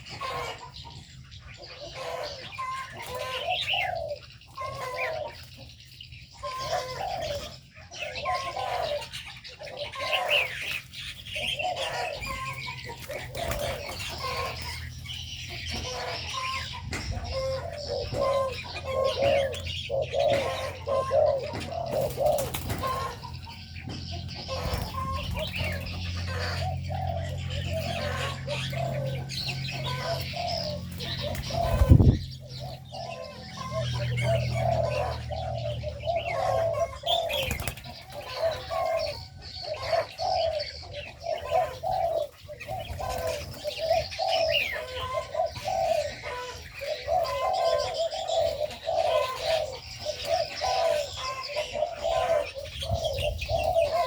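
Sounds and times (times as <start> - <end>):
doves cooing: 0.0 - 54.0
small birds chirping: 0.0 - 54.0.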